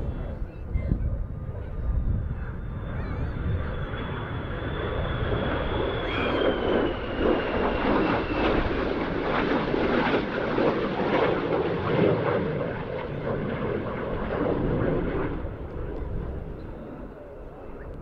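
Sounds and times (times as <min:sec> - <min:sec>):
jet noise roaring and crackling: 0:00.0 - 0:18.0.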